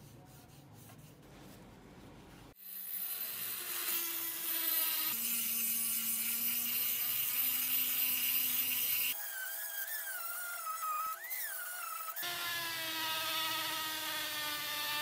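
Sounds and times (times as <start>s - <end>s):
rotary tool grinding metal: 2.6s - 15.0s.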